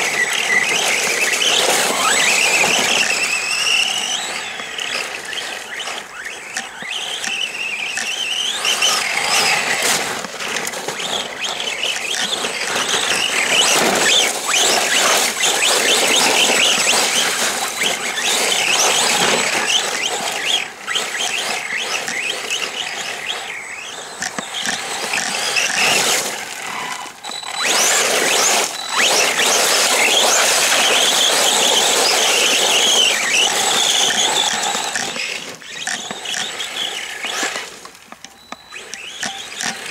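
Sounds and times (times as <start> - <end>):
electric motor whining: 0.0 - 39.9
tyres rushing on mud and gravel: 0.0 - 39.9.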